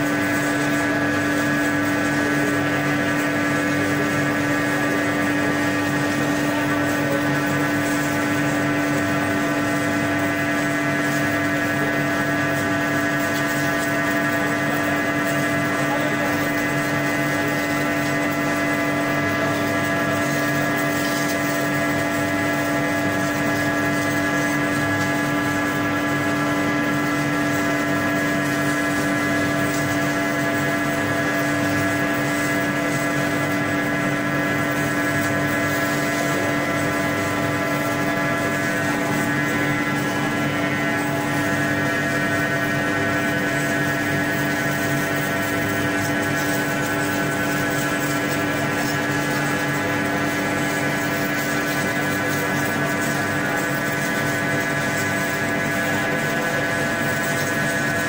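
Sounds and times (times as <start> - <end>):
foam cutting machine humming: 0.0 - 58.0.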